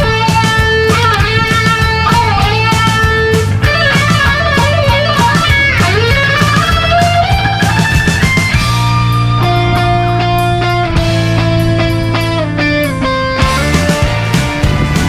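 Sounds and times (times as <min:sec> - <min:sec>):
electric guitar music with beat: 0:00.0 - 0:15.0.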